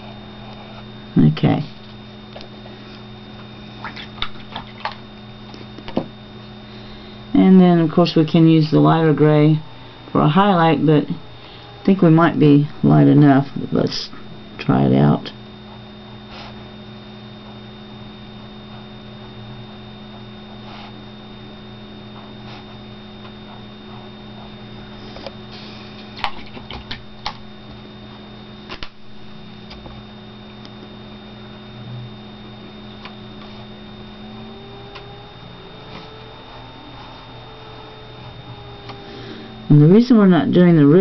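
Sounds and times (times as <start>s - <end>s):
electrical hum: 0.0s - 41.0s.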